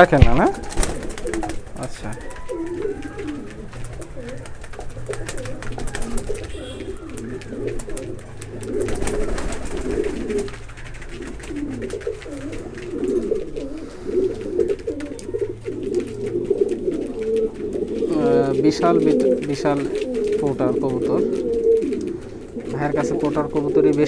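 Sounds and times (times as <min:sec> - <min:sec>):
pigeons cooing: 0:00.0 - 0:24.0
wing flaps: 0:00.6 - 0:24.0.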